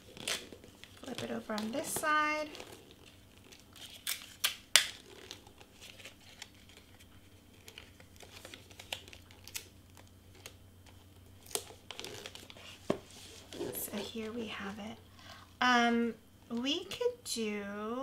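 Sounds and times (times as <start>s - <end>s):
wrapping paper crinkling: 0.0s - 14.6s.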